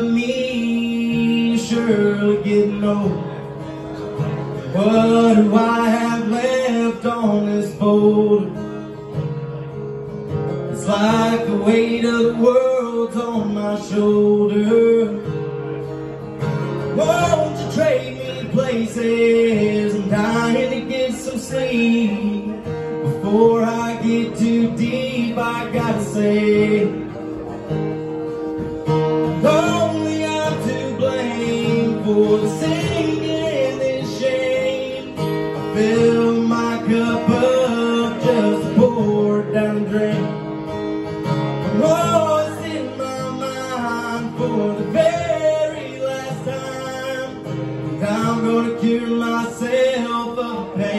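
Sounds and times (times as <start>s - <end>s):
man singing: 0.0s - 9.0s, 10.5s - 27.2s, 29.2s - 40.6s, 41.6s - 50.9s
strummed acoustic guitar: 0.0s - 50.9s.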